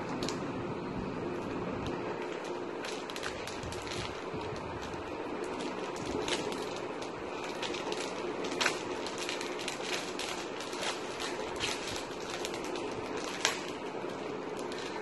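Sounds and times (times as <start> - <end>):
steady background noise: 0.0 - 15.0
plastic crinkling: 1.3 - 15.0.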